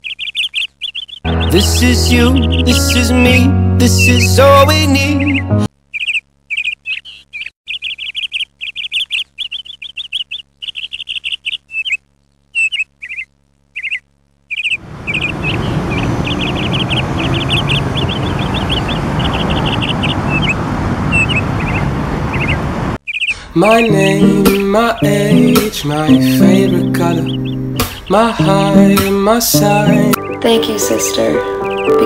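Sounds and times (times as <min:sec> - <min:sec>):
outdoor background noise: 0:00.0 - 0:01.8, 0:05.7 - 0:32.0
songbirds chirping in trills: 0:00.0 - 0:32.0.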